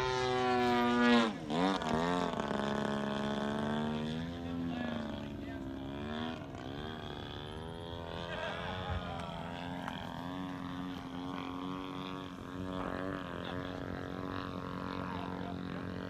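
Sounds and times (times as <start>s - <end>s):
model airplane engine droning: 0.0s - 16.0s
steady low hum: 0.0s - 16.0s.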